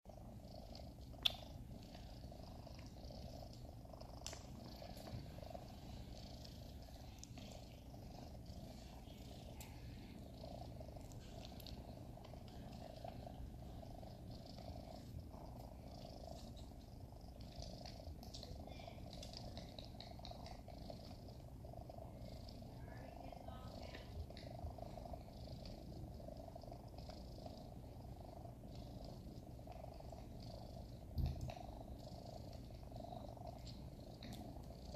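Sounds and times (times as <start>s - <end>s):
kittens purring: 0.1s - 34.9s.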